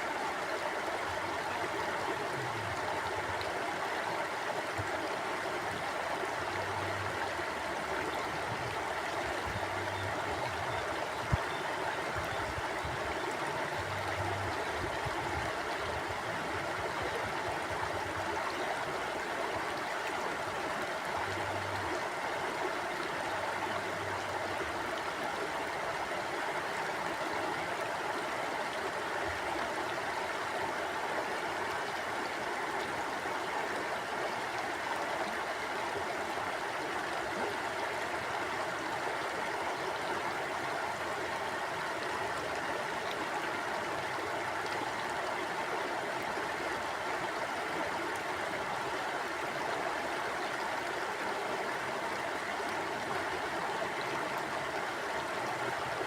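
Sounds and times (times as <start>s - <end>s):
stream burbling over rocks: 0.0s - 56.0s.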